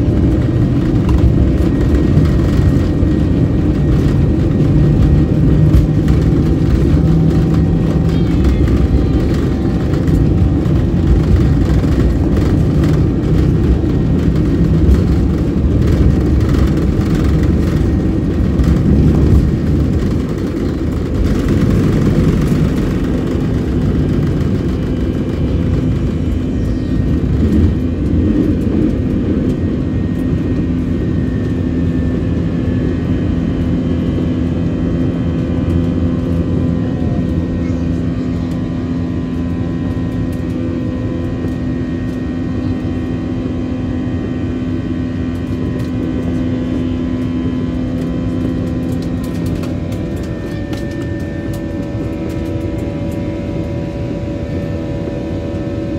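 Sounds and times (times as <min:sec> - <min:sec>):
jet engines roaring: 0:00.0 - 0:55.9
wheels rumbling on runway: 0:00.0 - 0:55.9.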